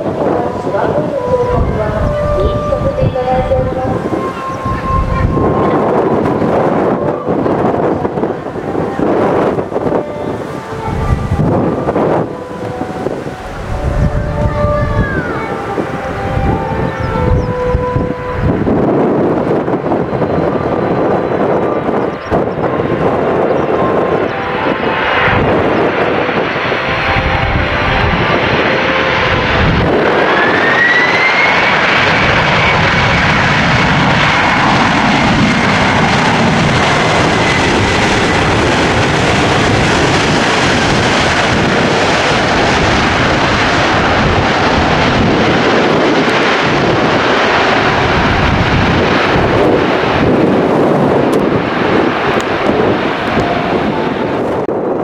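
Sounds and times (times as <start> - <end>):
jet engines roaring with whine: 0.0 - 55.0.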